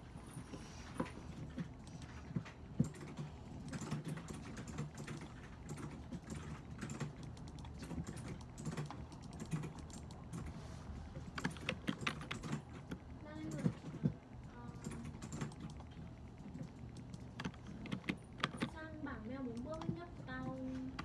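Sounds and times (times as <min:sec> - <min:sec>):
steady low hum: 0:00.0 - 0:21.0
keyboard typing clicks: 0:01.4 - 0:10.5, 0:11.2 - 0:21.0.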